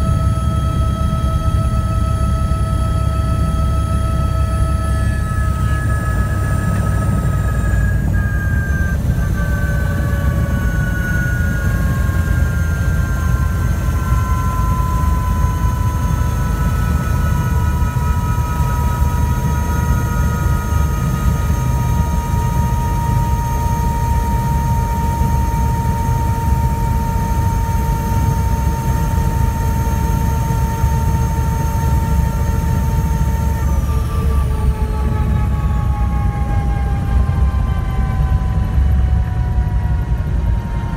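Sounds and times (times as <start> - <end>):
helicopter rotor and engine rumble: 0.0 - 40.9
turbine whine: 0.0 - 40.9.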